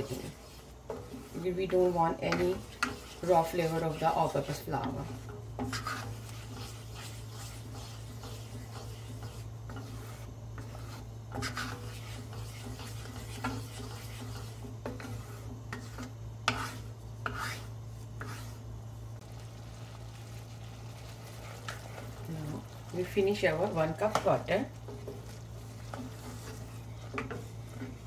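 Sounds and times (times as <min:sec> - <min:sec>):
wooden spatula scraping pan: 0:00.0 - 0:18.7, 0:19.8 - 0:28.0
steady low hum: 0:00.0 - 0:28.0.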